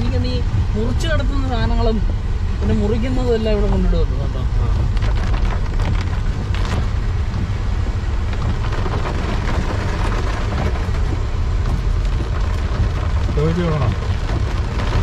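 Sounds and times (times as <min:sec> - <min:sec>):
car driving on wet road: 0:00.0 - 0:15.0
heavy rain on car roof: 0:00.0 - 0:15.0.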